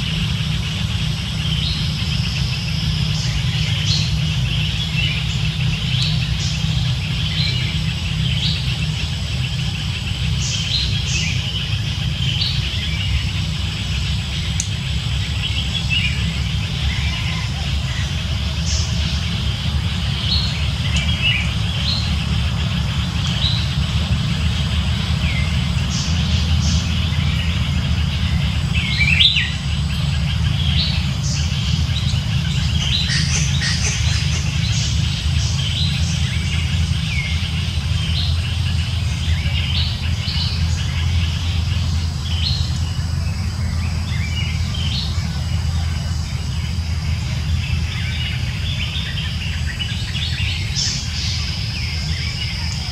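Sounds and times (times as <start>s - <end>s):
small birds chirping: 0.0s - 52.9s
steady low rumble: 0.0s - 52.9s.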